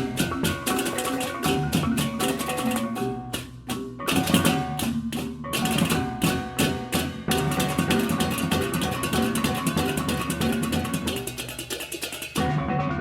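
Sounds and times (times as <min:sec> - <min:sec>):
drums and percussion beat: 0:00.0 - 0:12.6.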